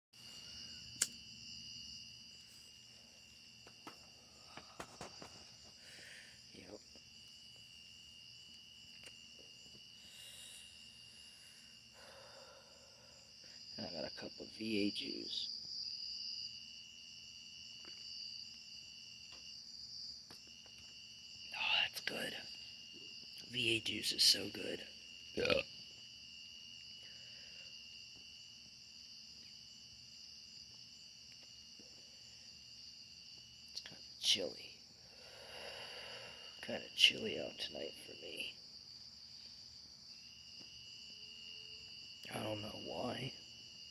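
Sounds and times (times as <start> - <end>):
crickets trilling: 0.2 - 43.9.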